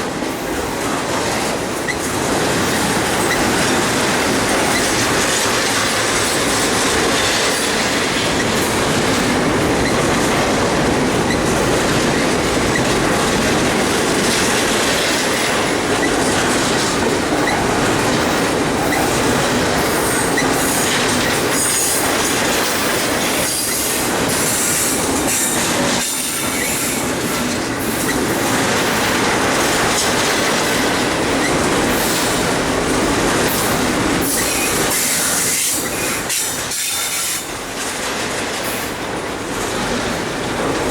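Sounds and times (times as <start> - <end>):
train wheels clacking over rail joints: 0.0 - 40.9
train wheels squealing on rails: 0.3 - 10.6, 11.2 - 13.2, 14.3 - 39.9.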